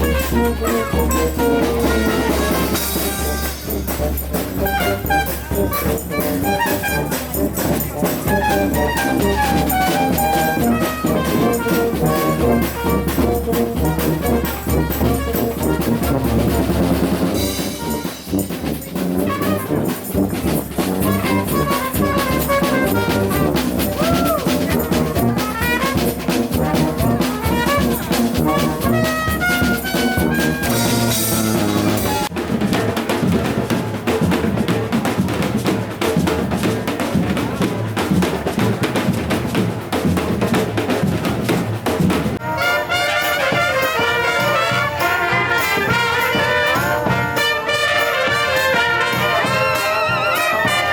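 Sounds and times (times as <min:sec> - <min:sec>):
street brass band playing: 0:00.0 - 0:50.9.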